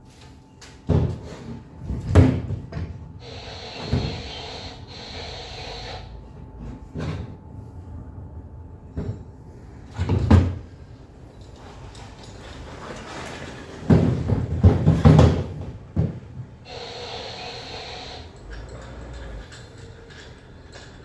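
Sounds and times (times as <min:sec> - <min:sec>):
steady hum with hiss: 0:00.0 - 0:21.0.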